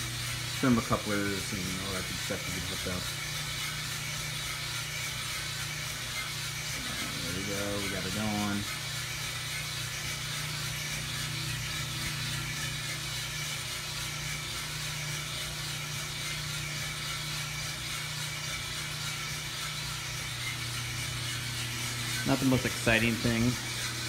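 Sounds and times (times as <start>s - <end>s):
coffee beans tumbling in drum: 0.0s - 24.0s
coffee roaster hum: 0.0s - 24.0s
gas burner rushing hiss: 0.0s - 24.0s.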